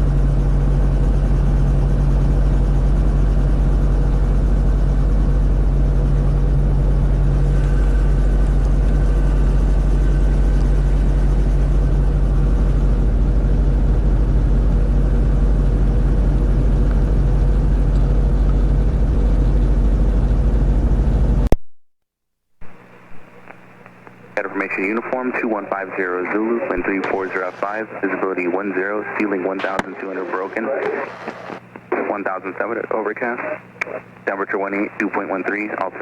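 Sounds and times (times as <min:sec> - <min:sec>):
helicopter engine and rotor drone: 0:00.0 - 0:21.5, 0:22.6 - 0:36.0.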